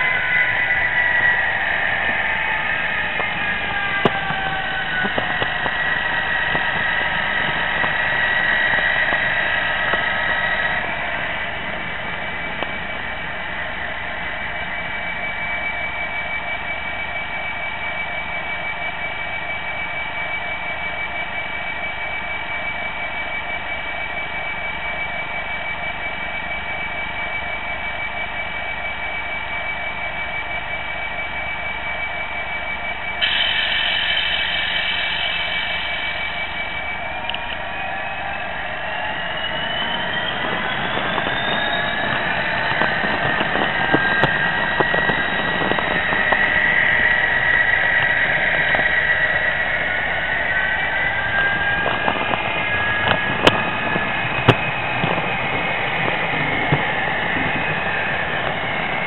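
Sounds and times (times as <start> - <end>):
model train diesel engine sound: 0.0 - 59.0
thin high whine: 0.0 - 59.0.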